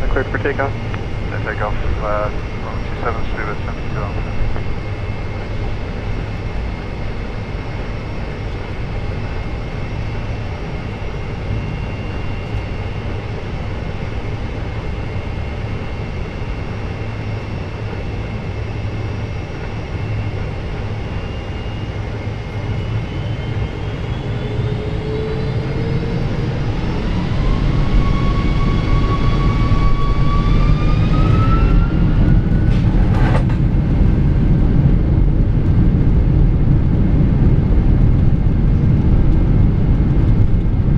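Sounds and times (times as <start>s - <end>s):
deep rumble of takeoff roll: 0.0s - 40.9s
jet engines whining: 0.0s - 40.9s.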